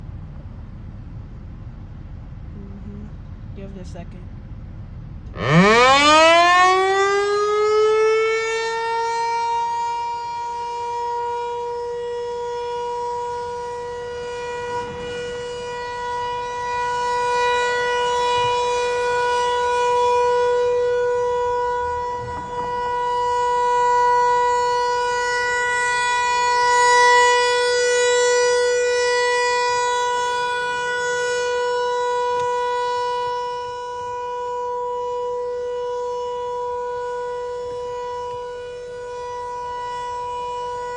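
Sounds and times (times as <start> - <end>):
warning siren wailing: 5.3 - 40.9.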